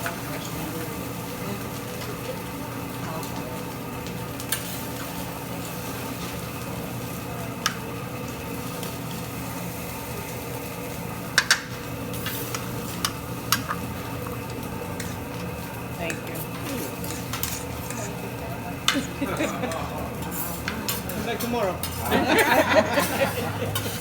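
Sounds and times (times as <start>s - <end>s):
sizzling on griddle: 0.0s - 24.0s.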